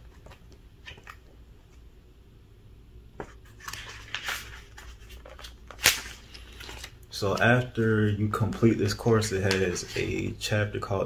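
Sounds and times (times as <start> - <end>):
book pages rustling: 0.0 - 1.8, 3.2 - 10.3.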